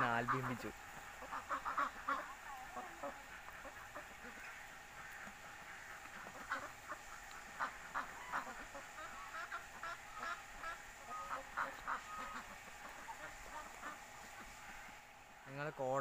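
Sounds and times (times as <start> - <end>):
geese and ducks honking: 0.0 - 16.0.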